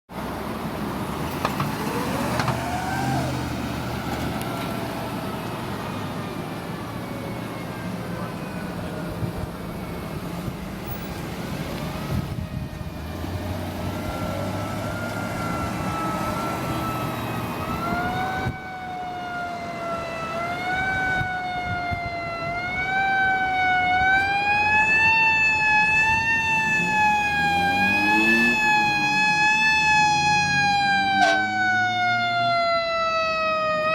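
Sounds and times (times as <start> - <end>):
mechanical siren wailing: 1.7 - 11.0, 11.6 - 33.9.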